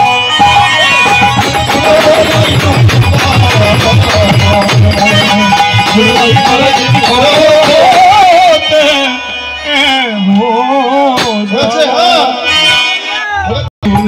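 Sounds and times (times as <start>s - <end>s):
wavering melody: 0.0s - 13.2s.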